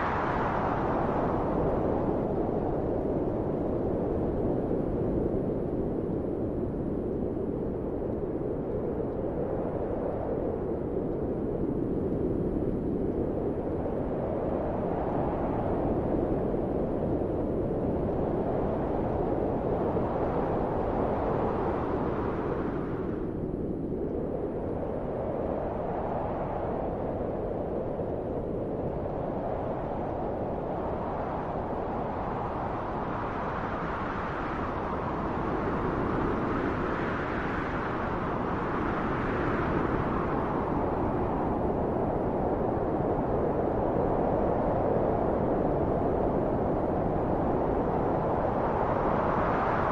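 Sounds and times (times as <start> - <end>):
wind blowing: 0.0 - 49.9.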